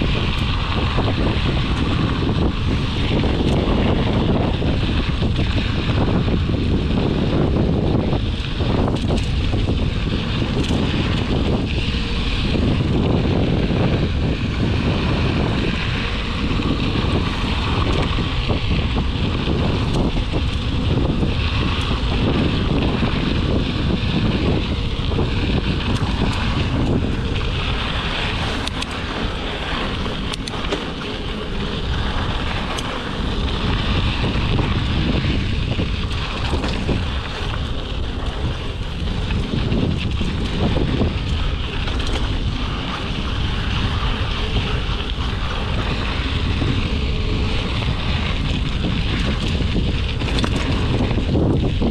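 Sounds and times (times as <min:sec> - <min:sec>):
bike clicks and rattles: 0:00.0 - 0:51.9
bike tyres on dirt: 0:00.0 - 0:51.9
wind buffeting microphone: 0:00.0 - 0:51.9.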